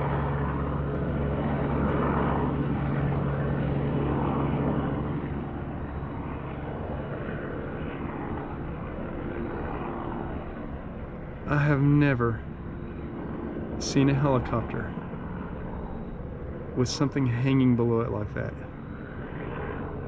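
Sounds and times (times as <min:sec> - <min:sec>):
distant helicopter drone: 0:00.0 - 0:20.0.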